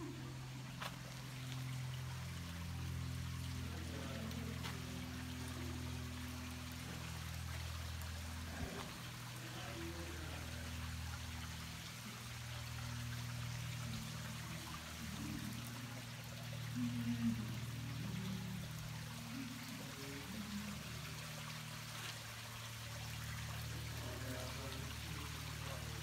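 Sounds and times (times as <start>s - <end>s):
creek water trickling: 0.0s - 26.0s
low steady hum: 0.0s - 26.0s.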